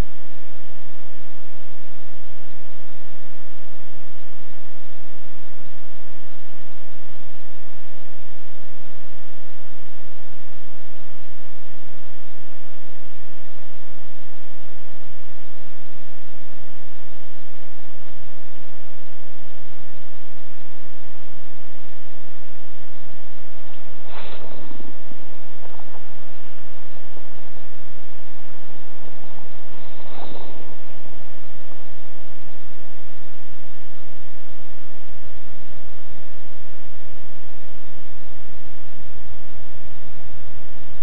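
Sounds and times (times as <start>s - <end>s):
constant whining tones: 0.0s - 41.0s
electrical hum and hiss: 0.0s - 41.0s.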